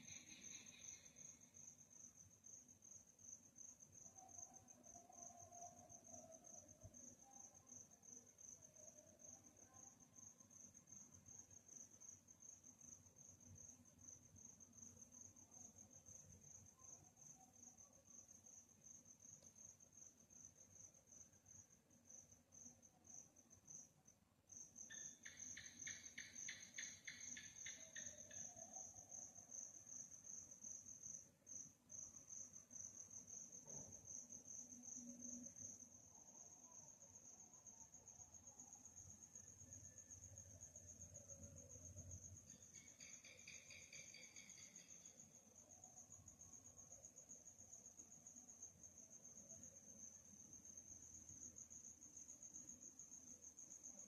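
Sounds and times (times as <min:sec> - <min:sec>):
crickets trilling: 0:00.0 - 0:54.0
lower pulsed insect call: 0:00.0 - 0:54.0.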